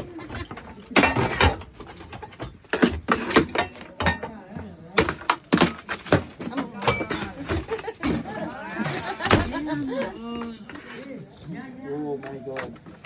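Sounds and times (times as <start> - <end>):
metal utensils and pots clinking: 0.0 - 11.1.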